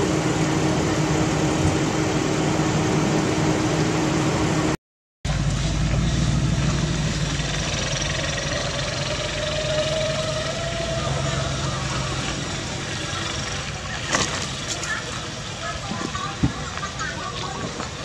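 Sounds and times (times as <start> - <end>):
low hum: 0.0 - 15.1
engine-like drone: 0.0 - 18.0.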